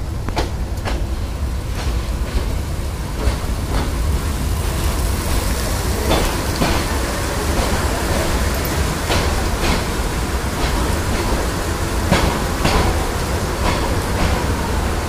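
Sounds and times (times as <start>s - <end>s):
rain hissing: 0.0s - 15.0s
train rumbling: 0.0s - 15.0s
wheel clacks over rail joints: 0.2s - 14.8s.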